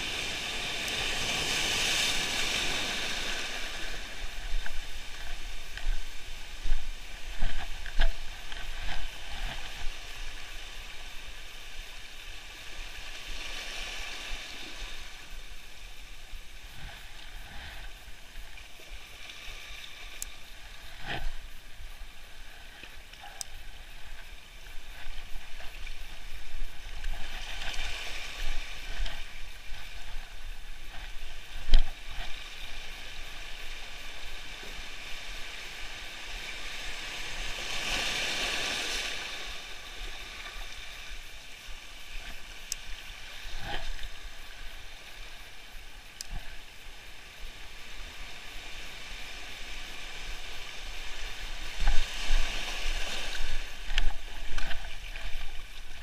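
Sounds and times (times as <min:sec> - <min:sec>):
sea waves washing in: 0:00.0 - 0:56.0.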